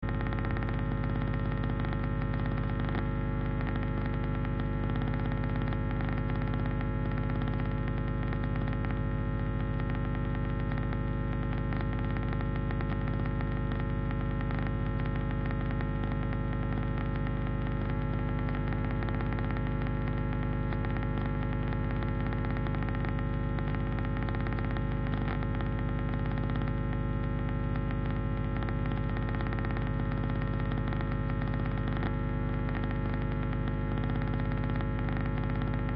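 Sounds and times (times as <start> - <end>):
crackling static: 0.0 - 35.9
electrical buzzing hum: 0.0 - 35.9.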